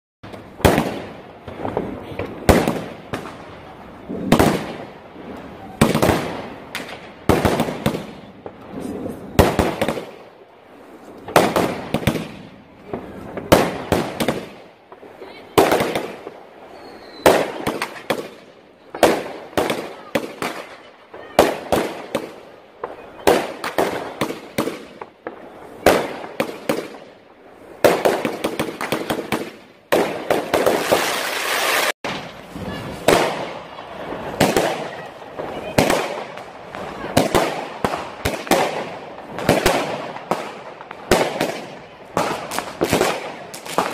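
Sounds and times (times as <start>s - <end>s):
fireworks bangs: 0.2s - 43.9s.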